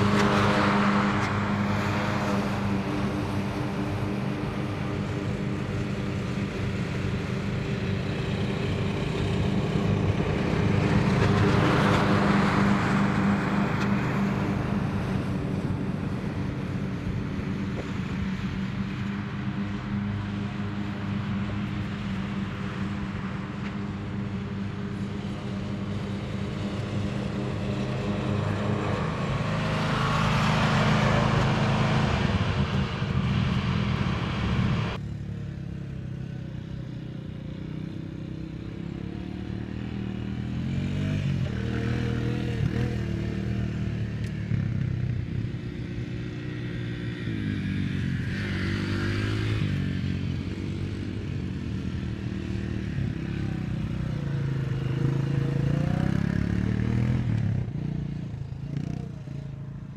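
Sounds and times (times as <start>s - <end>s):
atv engine revving: 0.0s - 35.0s, 37.4s - 59.4s.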